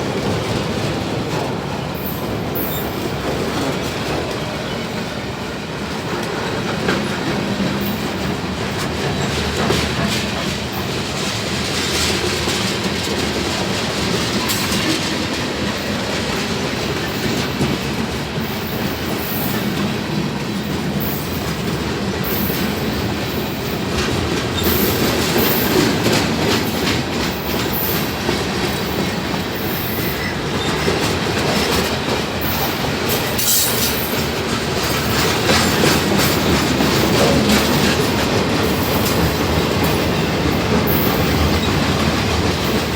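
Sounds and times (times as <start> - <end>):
train wheels rumbling on rails: 0.0 - 42.9
wheels clicking over rail joints: 5.9 - 42.9.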